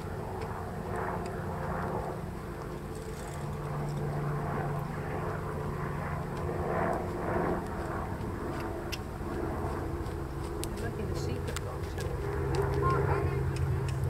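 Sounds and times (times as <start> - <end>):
engine drone: 0.0 - 14.0.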